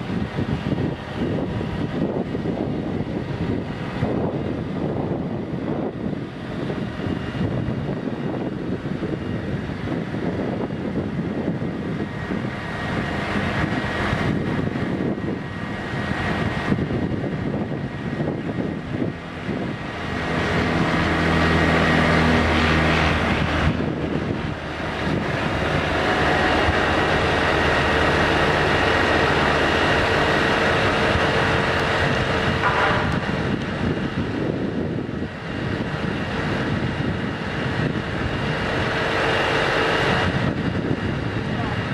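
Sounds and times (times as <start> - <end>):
diesel engine at raised revs: 0.0 - 41.9
hydraulic whine: 0.0 - 41.9.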